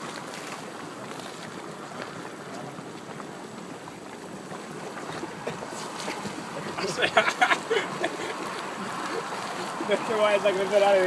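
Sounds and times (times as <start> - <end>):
hot spring water bubbling: 0.0 - 11.0.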